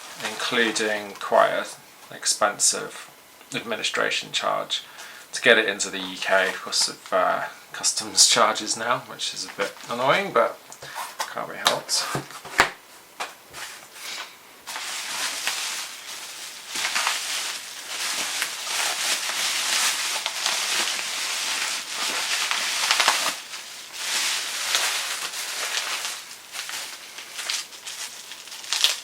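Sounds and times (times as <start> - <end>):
plastic packaging crinkling: 0.0 - 2.2, 5.7 - 29.0.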